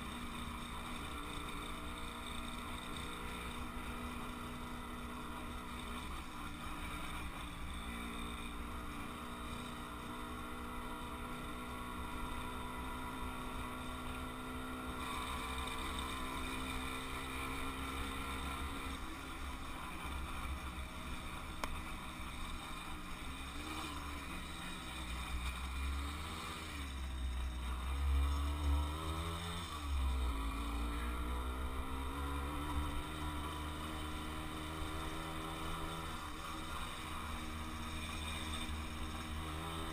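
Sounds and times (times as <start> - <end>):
two-stroke moped engine: 0.0 - 39.9.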